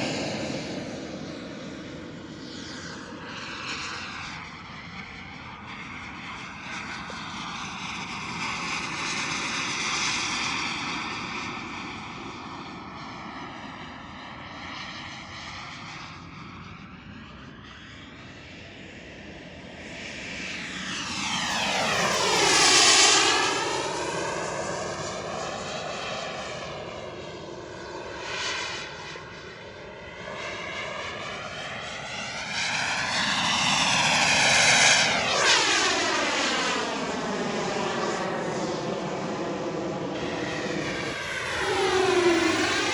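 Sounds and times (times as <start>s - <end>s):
jet turbine engine whine: 0.0s - 42.9s.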